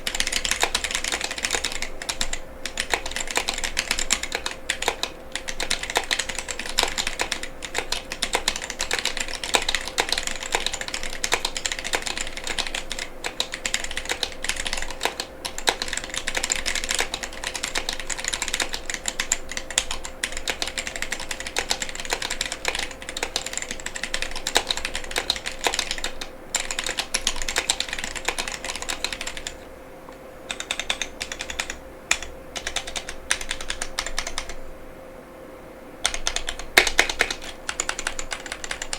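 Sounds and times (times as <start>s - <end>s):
mechanical keyboard typing: 0.0s - 29.7s, 30.5s - 34.6s, 36.0s - 38.9s.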